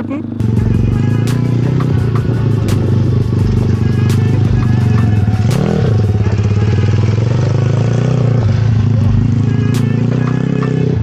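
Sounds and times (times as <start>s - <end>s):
motocross bike engine running: 0.0s - 11.0s.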